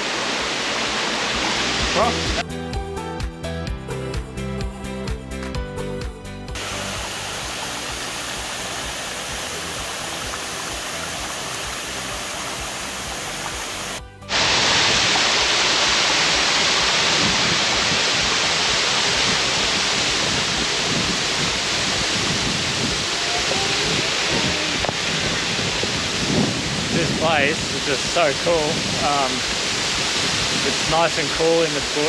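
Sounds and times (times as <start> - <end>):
waterfall rushing: 0.0 - 2.4, 6.6 - 32.0.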